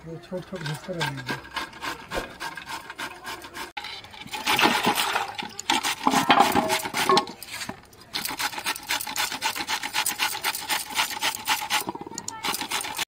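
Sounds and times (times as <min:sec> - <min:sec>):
radish grating on metal grater: 0:00.5 - 0:05.0, 0:05.6 - 0:13.0.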